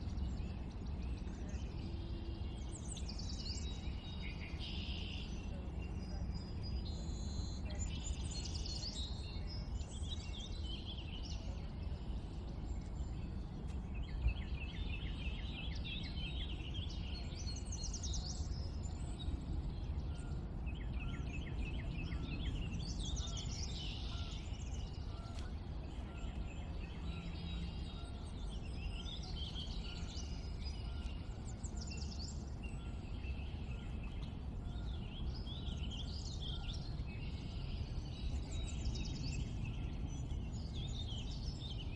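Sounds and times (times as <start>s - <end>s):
low background rumble: 0.0s - 41.9s
songbirds singing and chirping: 0.0s - 41.9s.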